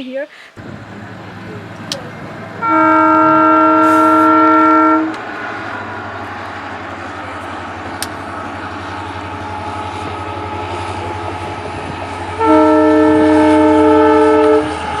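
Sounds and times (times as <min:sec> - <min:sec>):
train rumbling: 0:00.6 - 0:15.0
train horn chord: 0:02.6 - 0:15.0.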